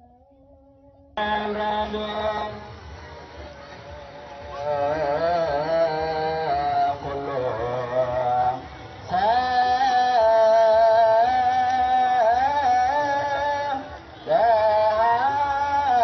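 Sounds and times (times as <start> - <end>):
person chanting a hymn: 1.2 - 16.0.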